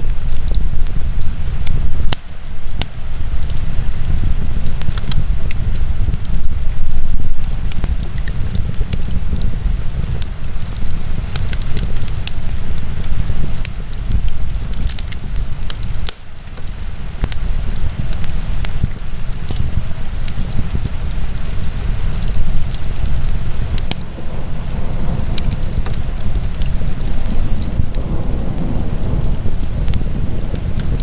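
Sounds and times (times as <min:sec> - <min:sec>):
fire crackling and popping: 0:00.0 - 0:31.0
steady low rumble: 0:00.0 - 0:31.0.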